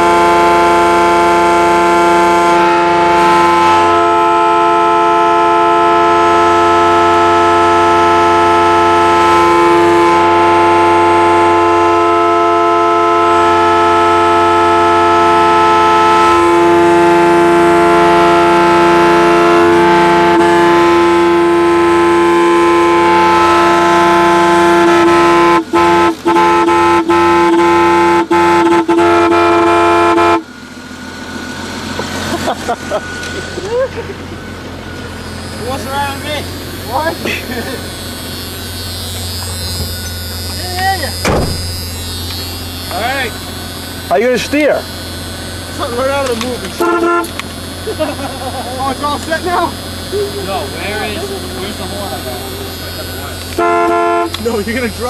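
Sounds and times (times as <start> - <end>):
car horn blaring: 0.0 - 33.6, 34.2 - 55.0.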